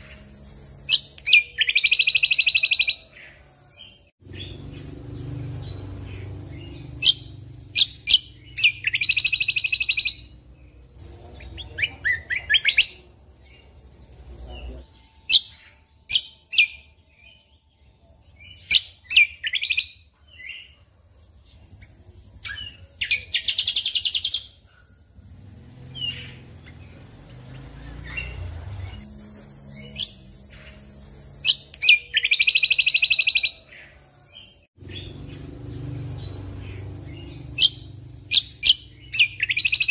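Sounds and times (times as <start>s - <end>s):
bird singing with whistles and trills: 0.0s - 20.8s, 21.6s - 25.0s, 25.8s - 39.9s.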